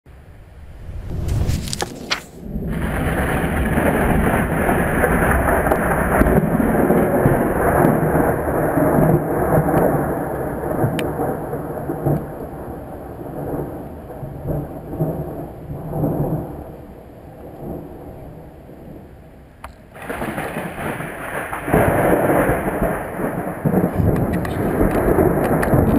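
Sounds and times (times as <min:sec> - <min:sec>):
thunder rolling: 0:00.1 - 0:19.1, 0:19.9 - 0:25.9
rain falling: 0:00.1 - 0:25.9.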